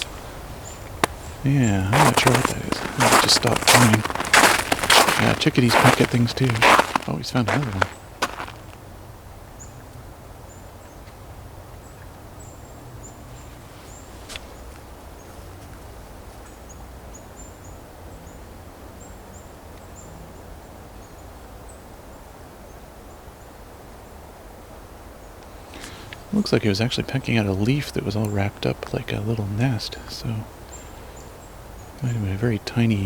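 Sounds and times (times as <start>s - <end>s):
low outdoor background: 0.0s - 33.0s.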